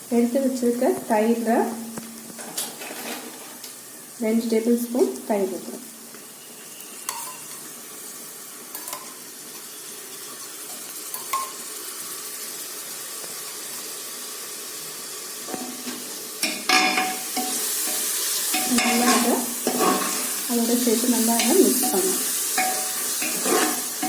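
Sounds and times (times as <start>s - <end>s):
food sizzling in a pot: 0.0s - 24.0s.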